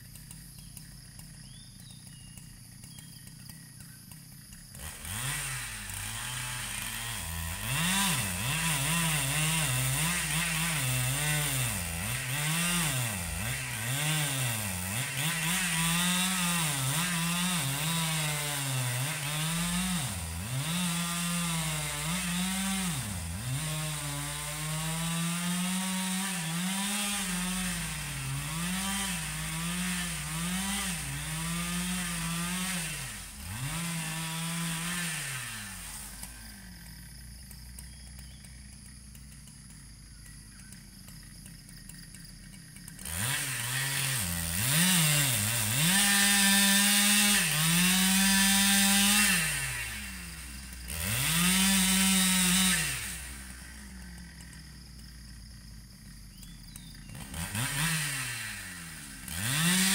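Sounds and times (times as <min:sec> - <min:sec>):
chainsaw cutting logs: 0:00.0 - 0:59.9.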